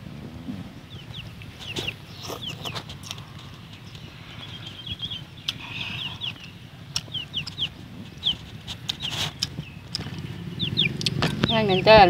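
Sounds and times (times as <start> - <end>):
birds peeping: 0.0 - 12.0.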